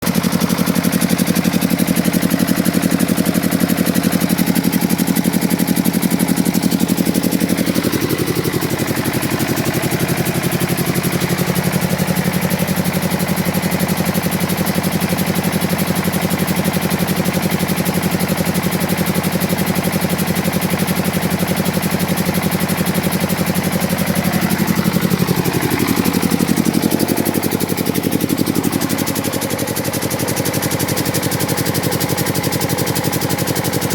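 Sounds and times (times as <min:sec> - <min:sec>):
diesel generator engine running: 0:00.0 - 0:33.9.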